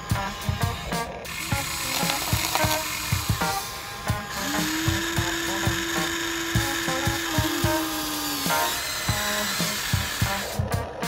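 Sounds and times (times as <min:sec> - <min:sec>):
background music with beat: 0:00.0 - 0:11.0
small electric motor whining: 0:00.0 - 0:11.0.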